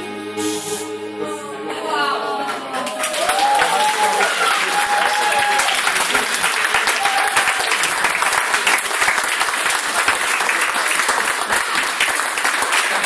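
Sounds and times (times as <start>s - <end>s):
audience clapping: 2.5s - 13.0s.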